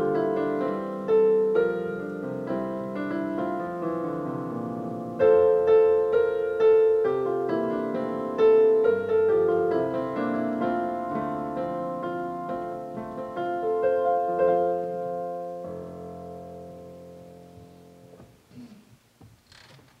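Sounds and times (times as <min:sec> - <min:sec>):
digital piano chords: 0:00.0 - 0:18.5.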